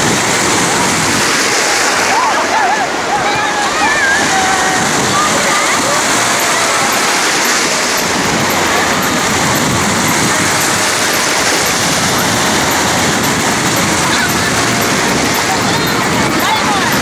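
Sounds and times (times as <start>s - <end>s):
small waves washing in shallows: 0.0s - 17.0s.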